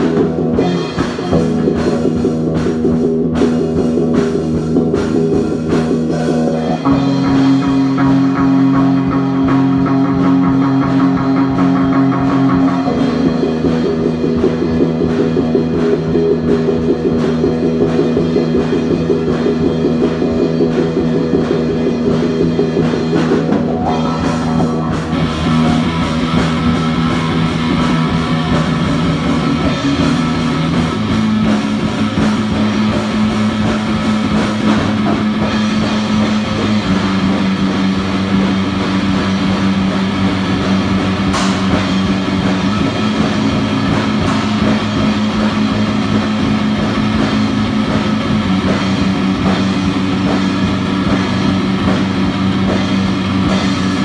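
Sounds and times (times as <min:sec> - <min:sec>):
drum kit: 0:00.0 - 0:54.0
guitars playing: 0:00.0 - 0:54.0
held bass notes: 0:00.0 - 0:54.0.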